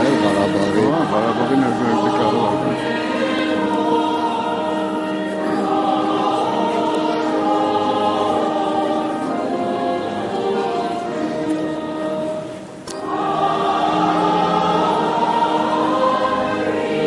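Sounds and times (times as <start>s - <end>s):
choir chanting held notes: 0.0s - 17.0s.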